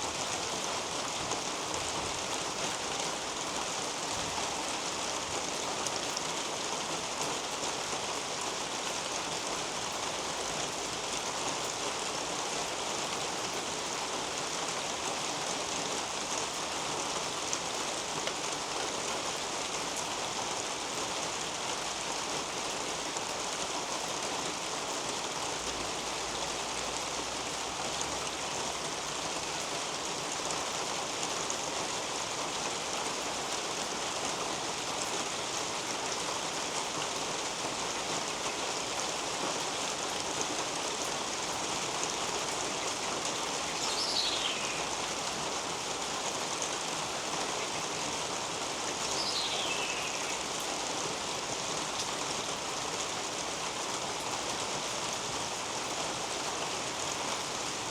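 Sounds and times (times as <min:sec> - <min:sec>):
rain on foliage and roof: 0:00.0 - 0:57.9.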